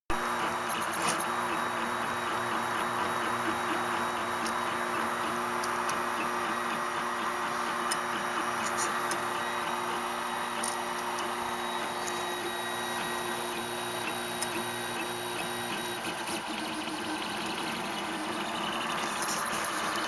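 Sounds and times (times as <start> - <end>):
printer stepper motors humming: 0.2 - 20.0.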